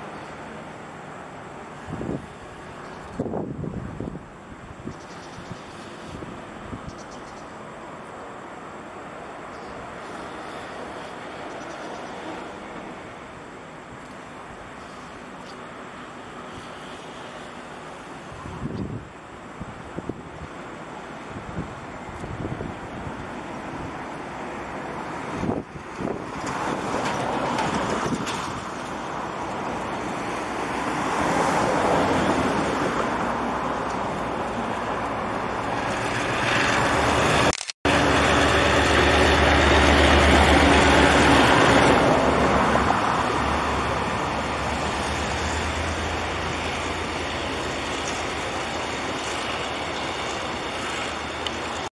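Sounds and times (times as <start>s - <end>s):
diesel locomotive engine drone: 0.0s - 51.9s
train cars passing: 0.0s - 51.9s.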